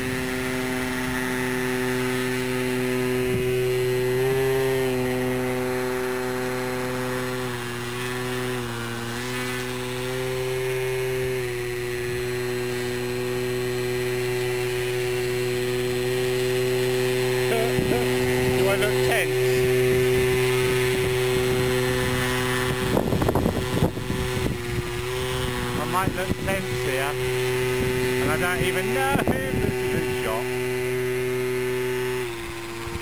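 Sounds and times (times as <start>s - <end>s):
model plane motor buzzing drone: 0.0s - 33.0s.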